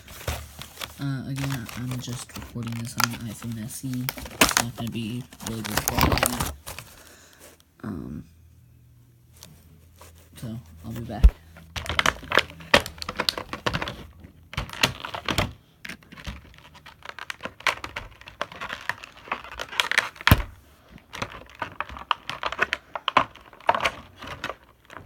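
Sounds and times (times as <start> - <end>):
plastic and cardboard packaging crinkling: 0.0 - 7.6, 9.9 - 25.0.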